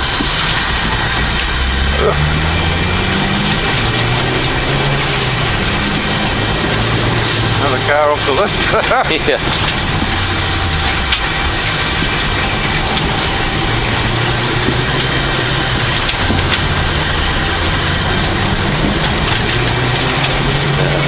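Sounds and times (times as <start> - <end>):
car engine pulling hard: 0.0 - 21.0
gravel and road noise: 0.0 - 21.0.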